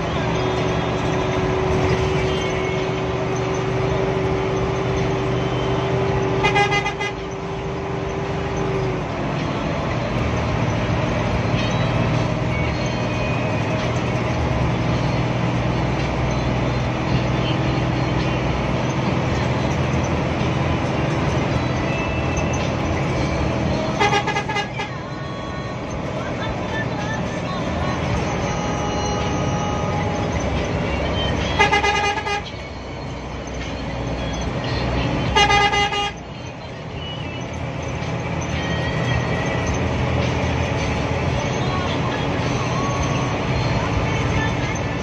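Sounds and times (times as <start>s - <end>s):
diesel bus engine running: 0.0s - 45.0s.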